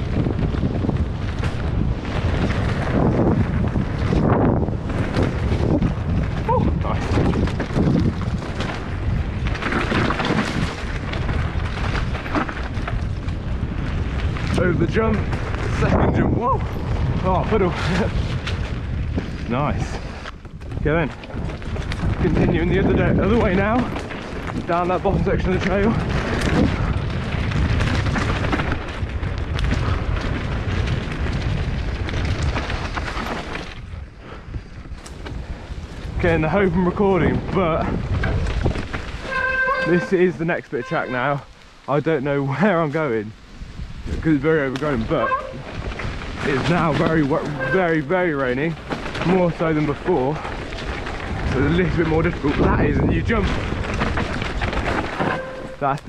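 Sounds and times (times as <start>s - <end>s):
bike rattling over rough ground: 0.0s - 56.0s
wind buffeting microphone: 0.0s - 56.0s.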